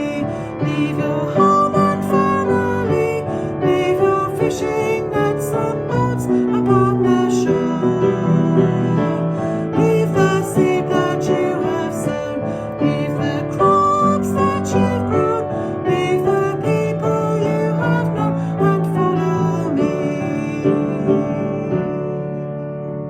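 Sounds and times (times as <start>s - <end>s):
piano-led song: 0.0s - 23.0s.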